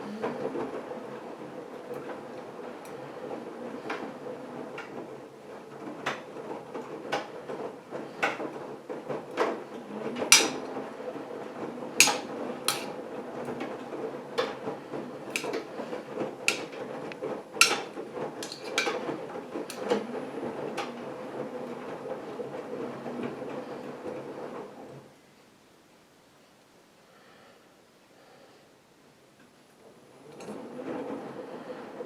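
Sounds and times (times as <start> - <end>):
washing machine motor hum: 0.0 - 25.2, 29.6 - 32.0.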